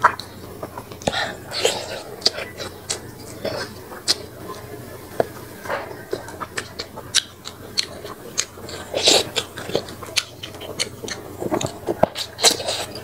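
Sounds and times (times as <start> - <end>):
chewing and lip-smacking: 0.0 - 13.0.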